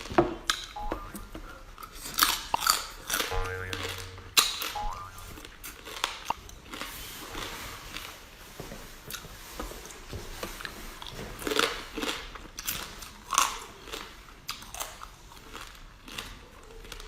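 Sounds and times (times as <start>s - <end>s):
chewing and crunching food: 1.4s - 17.0s.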